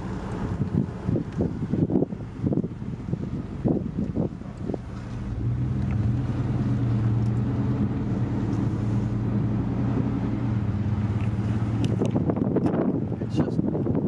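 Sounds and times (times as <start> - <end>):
car engine drone: 0.0 - 13.4
road noise: 0.0 - 14.0.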